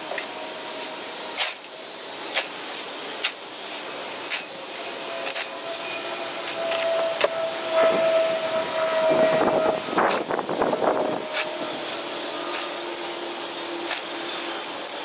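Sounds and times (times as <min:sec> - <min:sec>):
shovel scraping gravel: 0:00.0 - 0:07.3, 0:08.0 - 0:15.0
steady background drone: 0:00.0 - 0:15.0.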